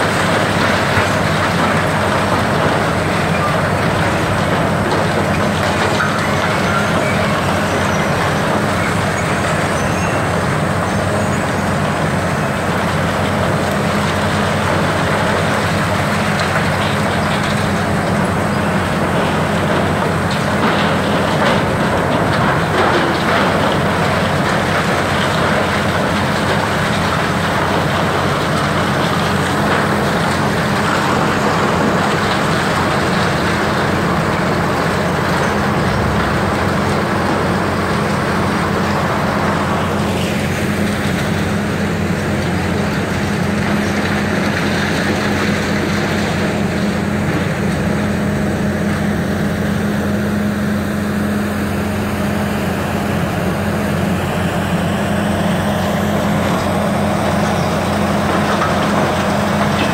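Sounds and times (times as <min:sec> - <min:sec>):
diesel excavator engines humming: 0:00.0 - 0:59.9.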